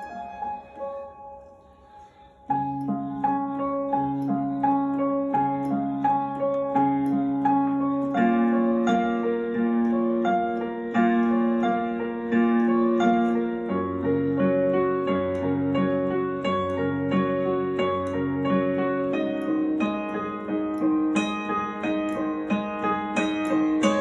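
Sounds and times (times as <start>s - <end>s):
piano arpeggios: 0.0s - 24.0s
held piano bass notes: 2.5s - 24.0s.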